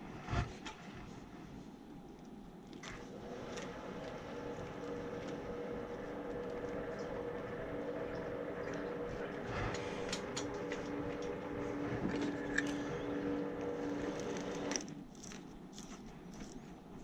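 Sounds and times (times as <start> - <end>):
machine hum: 1.1 - 17.0.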